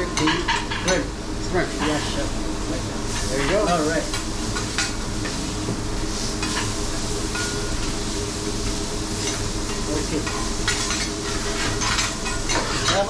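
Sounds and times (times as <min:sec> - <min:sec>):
shrimp sizzling on a griddle: 0:00.0 - 0:13.0.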